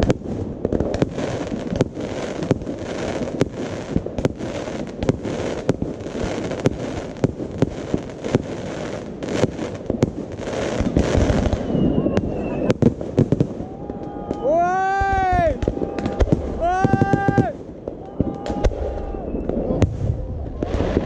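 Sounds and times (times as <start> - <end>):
fireworks banging: 0.0 - 21.0
fireworks crackling: 0.0 - 21.0.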